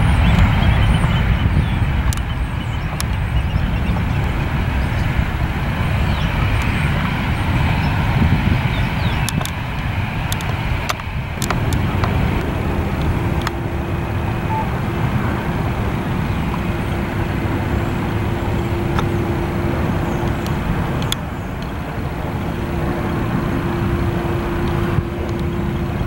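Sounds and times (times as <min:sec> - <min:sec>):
droning hum: 0:00.0 - 0:26.0
engine noise: 0:00.0 - 0:26.0.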